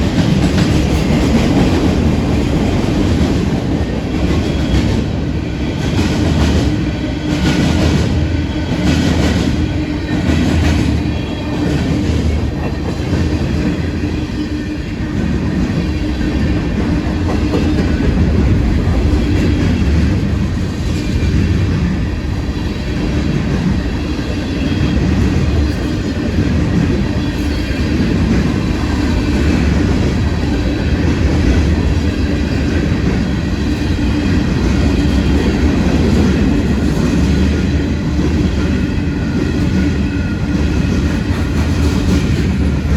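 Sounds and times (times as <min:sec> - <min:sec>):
freight train cars rolling past: 0:00.0 - 0:42.9.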